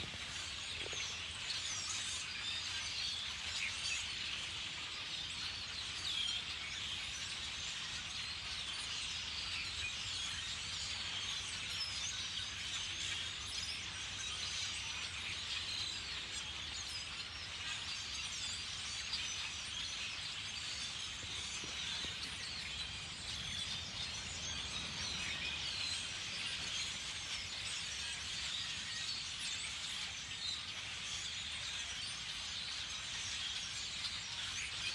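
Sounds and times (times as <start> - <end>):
flock of birds chattering: 0.0 - 34.9.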